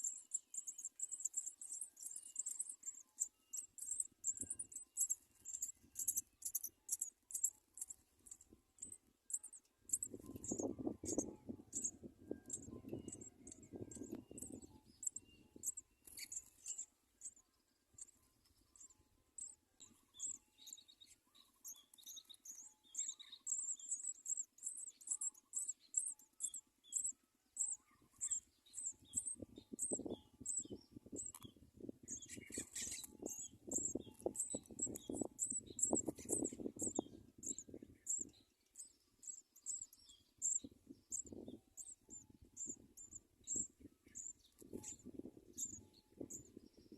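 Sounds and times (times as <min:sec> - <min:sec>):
baby sparrows chirping: 0:00.0 - 0:46.9.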